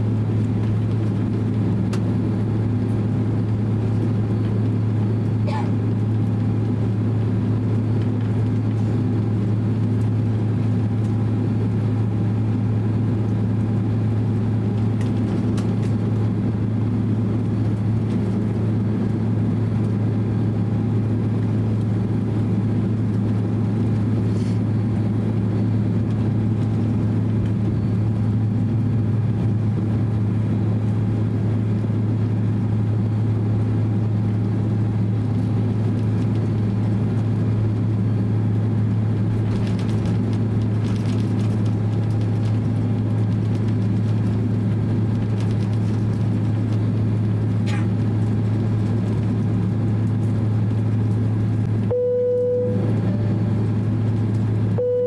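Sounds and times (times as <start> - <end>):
airliner engine cabin hum: 0.0 - 55.0.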